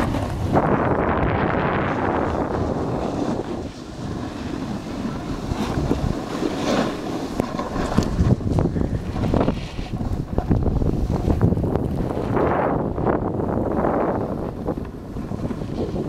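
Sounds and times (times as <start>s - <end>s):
sliding over hard-packed snow: 0.0s - 16.0s
wind buffeting microphone: 0.0s - 16.0s.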